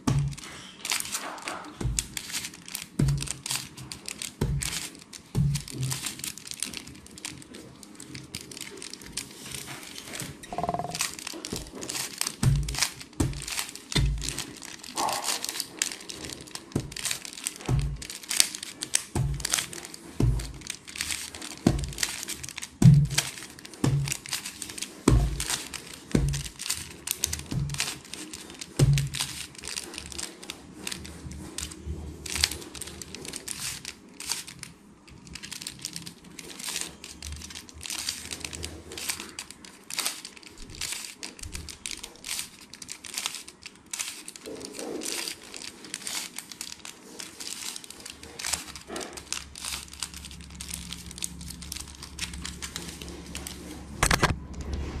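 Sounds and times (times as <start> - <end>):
puzzle cube layers clicking: 0.0 - 9.6, 10.4 - 31.0, 31.6 - 54.6.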